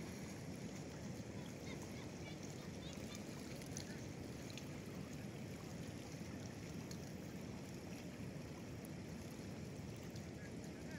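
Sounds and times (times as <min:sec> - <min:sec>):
river water flowing: 0:00.0 - 0:10.9.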